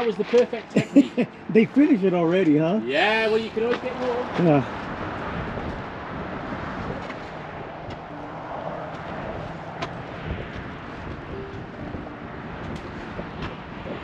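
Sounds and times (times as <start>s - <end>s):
wind buffeting microphone: 2.7s - 14.0s.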